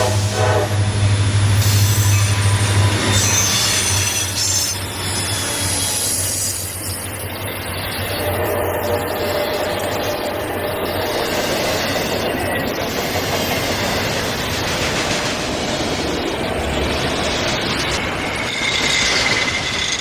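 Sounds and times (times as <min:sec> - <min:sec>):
freight train wheels rumbling: 0:00.0 - 0:20.0
high wheel squeal: 0:01.5 - 0:14.8, 0:16.0 - 0:20.0.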